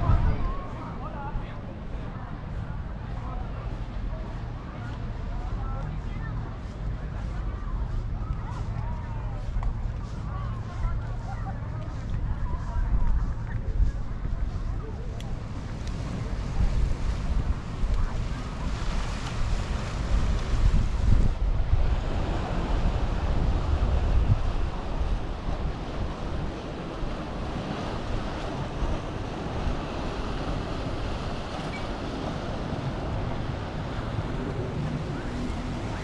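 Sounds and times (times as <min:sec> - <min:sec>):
surf on sandy beach: 0:00.0 - 0:36.0
wind buffeting microphone: 0:00.0 - 0:36.0.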